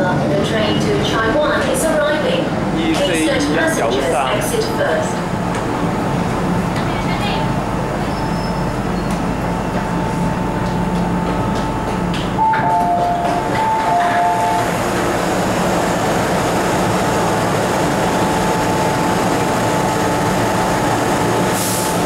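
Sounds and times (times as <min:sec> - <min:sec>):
train hum: 0:00.0 - 0:22.0.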